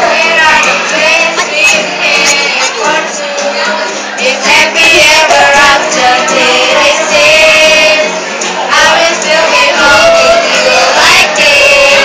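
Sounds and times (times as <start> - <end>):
girls singing together: 0.0 - 12.0
strummed acoustic guitar: 0.0 - 12.0.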